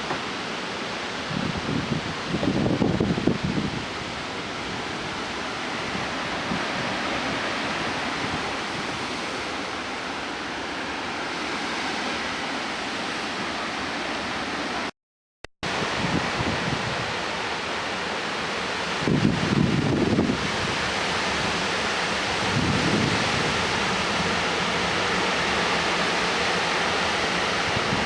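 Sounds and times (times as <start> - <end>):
wind gusts buffeting microphone: 0.0 - 13.6, 15.7 - 28.0
storm wind rushing through trees: 0.0 - 14.9, 15.7 - 28.0.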